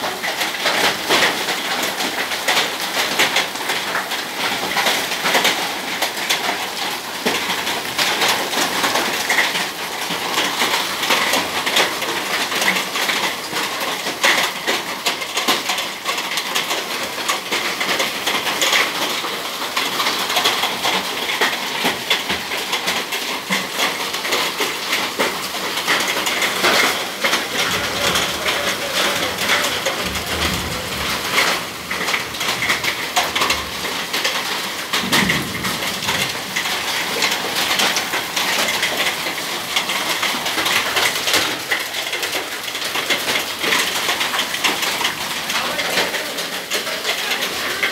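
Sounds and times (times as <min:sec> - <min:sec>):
hail and rain clattering on concrete: 0:00.0 - 0:47.9.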